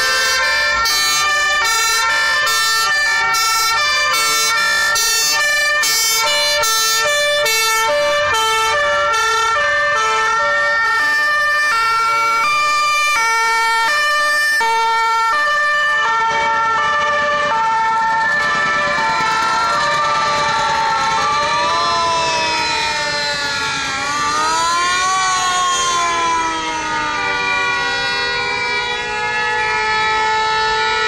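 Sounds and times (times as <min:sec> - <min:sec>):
fire engine two-tone sirens: 0:00.0 - 0:31.0
siren gliding up and down: 0:00.0 - 0:31.0.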